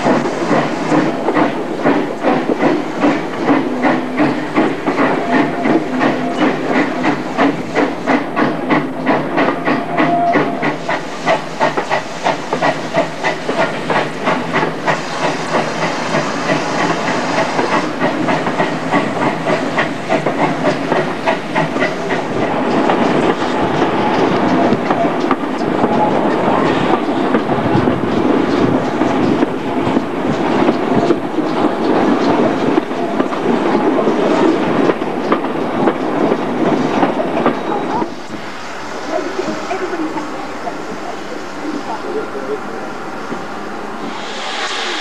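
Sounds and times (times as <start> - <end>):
steam hiss: 0.0 - 45.0
steam train beats: 0.0 - 45.0
train wheels on rails: 0.0 - 45.0.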